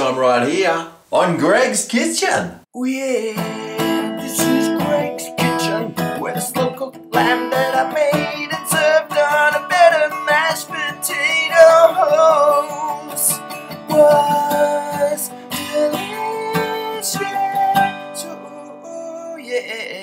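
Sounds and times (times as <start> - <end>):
man singing: 2.7 - 20.0
strummed acoustic guitar: 3.0 - 20.0.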